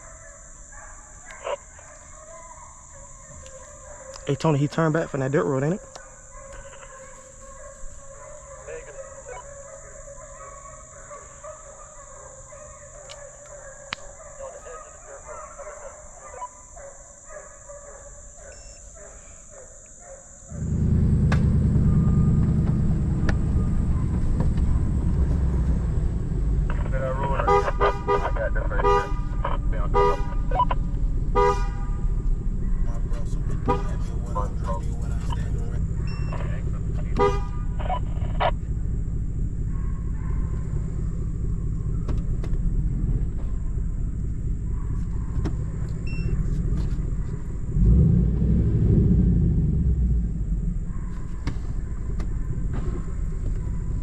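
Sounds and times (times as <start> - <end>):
vehicle engine and road noise: 0.0 - 16.8, 19.8 - 54.0.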